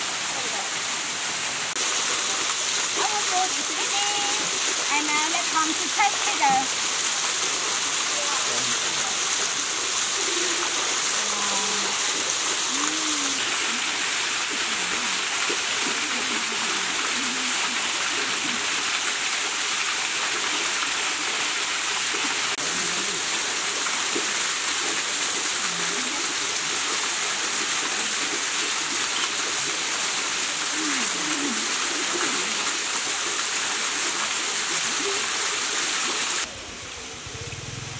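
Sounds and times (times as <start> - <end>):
waterfall pouring onto rocks: 0.0 - 36.5.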